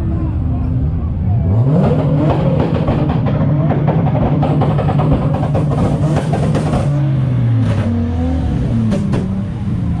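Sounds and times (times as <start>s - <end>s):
car engine revving steadily: 0.0s - 10.0s.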